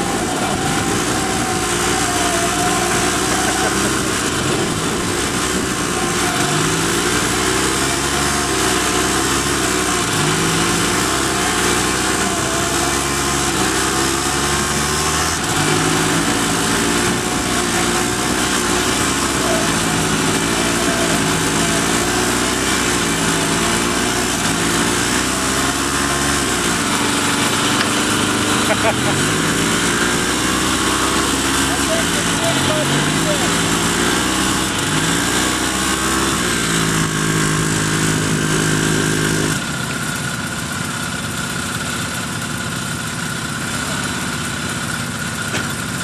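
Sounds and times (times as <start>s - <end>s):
small engines under load: 0.0s - 46.0s.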